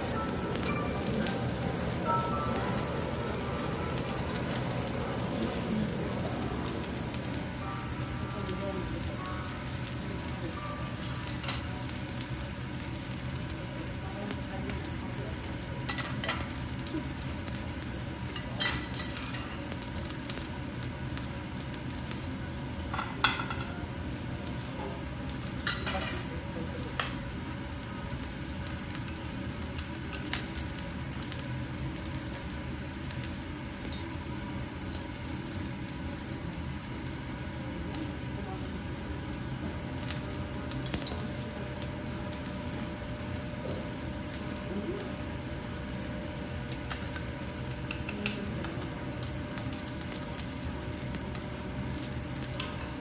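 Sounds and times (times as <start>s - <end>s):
fish sizzling on griddle: 0.0s - 53.0s.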